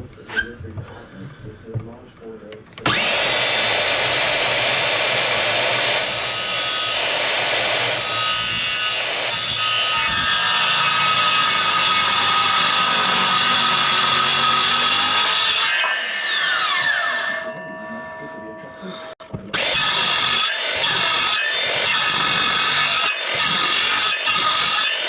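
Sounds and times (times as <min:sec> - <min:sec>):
power tool cutting wood: 0:02.8 - 0:17.6, 0:19.5 - 0:25.0.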